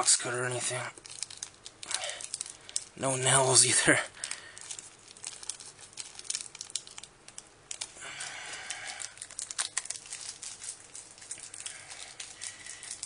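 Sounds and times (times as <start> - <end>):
plastic packet crinkling and tearing: 0.0 - 13.0.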